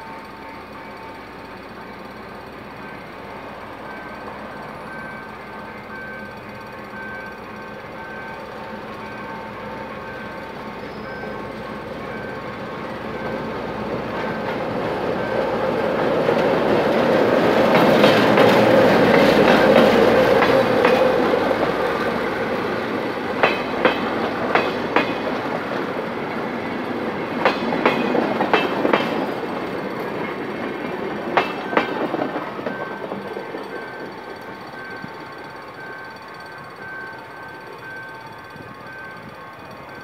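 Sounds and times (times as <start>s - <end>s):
diesel locomotive passing: 0.0s - 40.0s
train wheels clacking on track: 0.0s - 40.0s.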